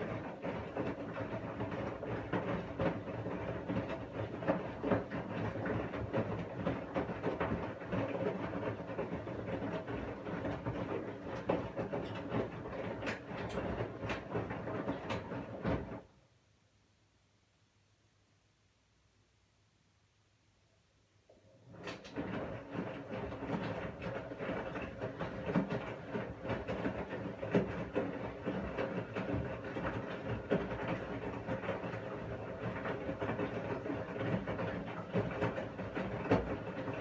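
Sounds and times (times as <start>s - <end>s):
clacks and knocks in drum: 0.3s - 16.0s, 21.8s - 37.0s.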